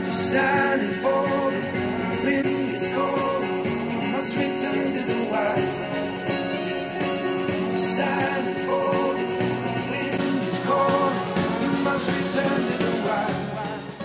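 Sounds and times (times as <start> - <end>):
song through studio speakers: 0.0 - 14.0.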